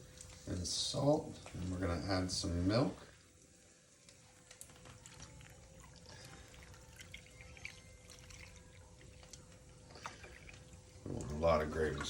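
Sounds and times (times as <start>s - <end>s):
faint steady hum: 0.0s - 12.0s
milk trickling into a pan: 0.0s - 12.0s.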